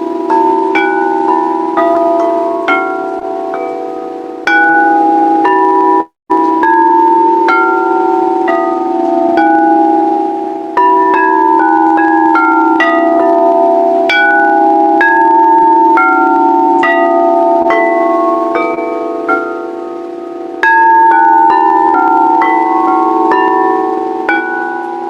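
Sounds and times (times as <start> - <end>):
singing bowls struck: 0.0 - 25.0
wavering hum of bowls: 0.0 - 25.0.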